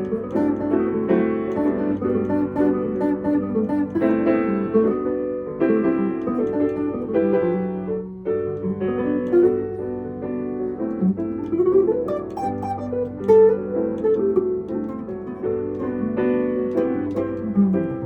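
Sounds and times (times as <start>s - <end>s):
piano and instrument music: 0.0s - 18.0s.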